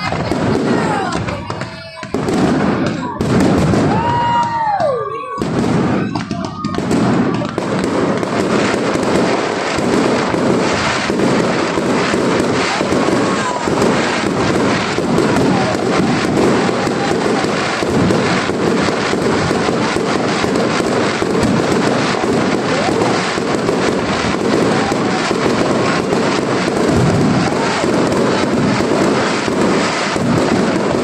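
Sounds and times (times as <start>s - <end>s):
fireworks cracking and banging: 0.0s - 31.0s.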